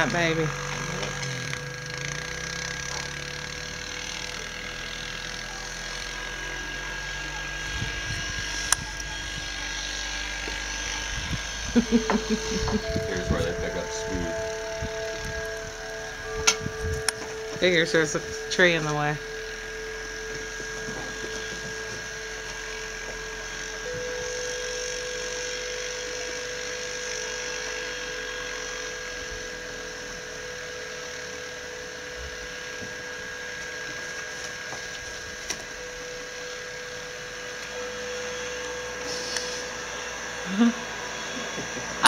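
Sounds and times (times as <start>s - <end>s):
distant atv engine whine: 0.0s - 42.0s.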